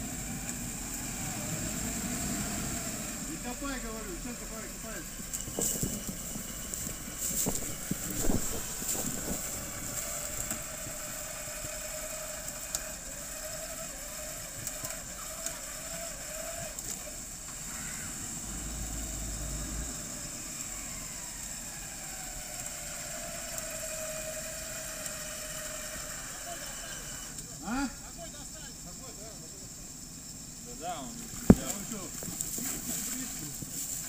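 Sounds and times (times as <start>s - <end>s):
jeep engine running: 0.0s - 34.0s.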